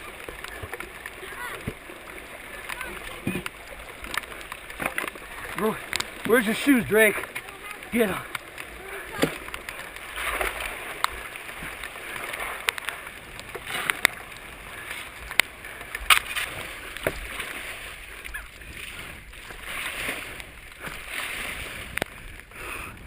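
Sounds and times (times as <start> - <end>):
flood water rushing and splashing: 0.0 - 23.0.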